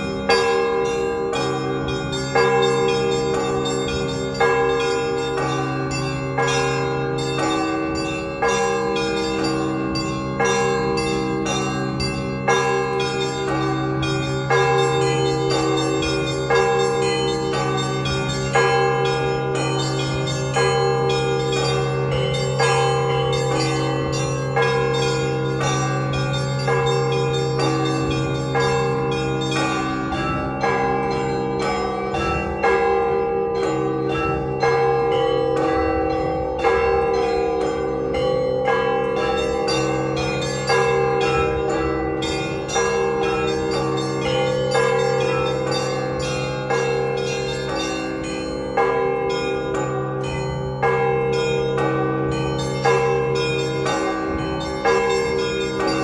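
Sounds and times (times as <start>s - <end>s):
deep church bell strikes: 0.0s - 56.0s
smaller bells ringing rapidly: 0.0s - 56.0s.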